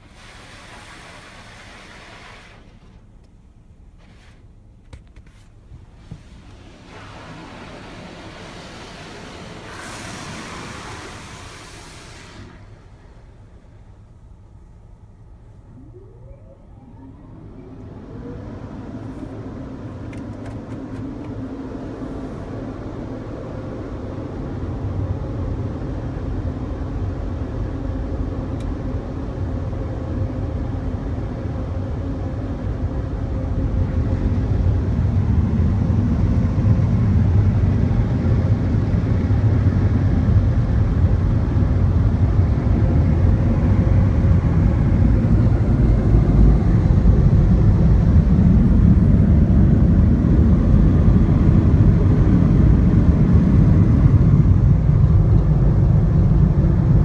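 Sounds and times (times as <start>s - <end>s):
automatic car wash roaring: 0.0s - 57.0s.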